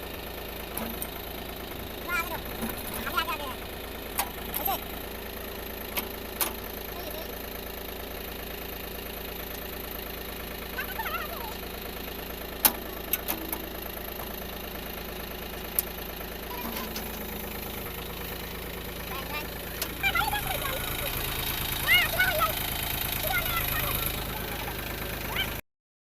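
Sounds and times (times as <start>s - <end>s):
tractor engine idling: 0.0s - 25.6s.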